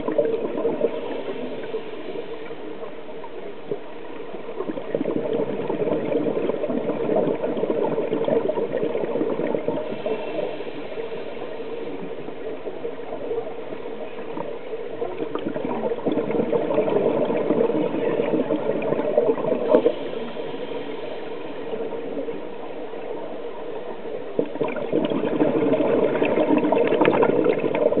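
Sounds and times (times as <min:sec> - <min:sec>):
underwater bubbling and gurgling: 0:00.0 - 0:28.0.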